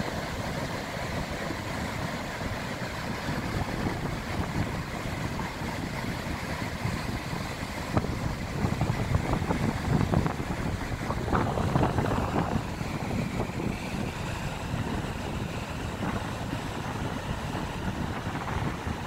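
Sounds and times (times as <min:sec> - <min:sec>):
waves crashing on beach: 0:00.0 - 0:19.0
wind buffeting microphone: 0:00.0 - 0:19.0.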